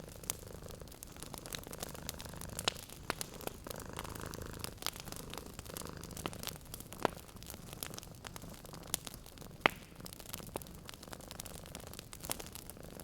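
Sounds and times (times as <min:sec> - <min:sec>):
cat purring: 0:00.0 - 0:13.0
wood fire crackling: 0:00.0 - 0:13.0.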